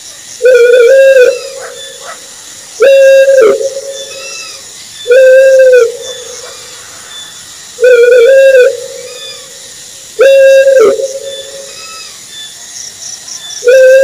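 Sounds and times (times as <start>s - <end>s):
steady high hiss: 0.0s - 14.0s
owl hooting: 0.4s - 9.6s, 10.2s - 12.2s, 13.6s - 14.0s.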